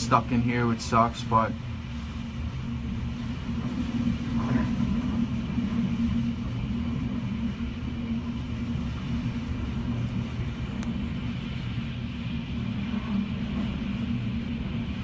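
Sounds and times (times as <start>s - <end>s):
wind buffeting building: 0.0s - 15.0s.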